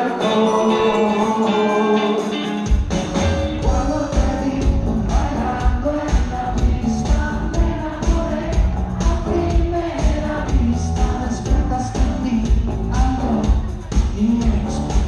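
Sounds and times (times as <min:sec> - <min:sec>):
live band music: 0:00.0 - 0:15.0
bass and drums beat: 0:02.6 - 0:15.0.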